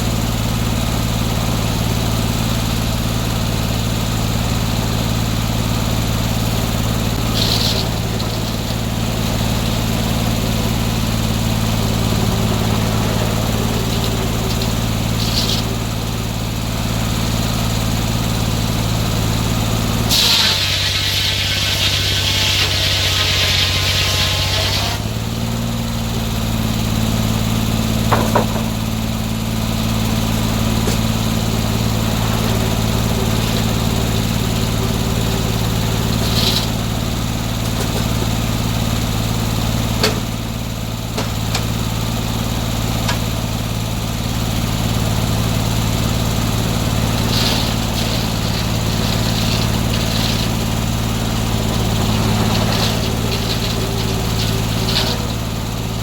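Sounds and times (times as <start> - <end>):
gasoline engine running: 0.0 - 56.0.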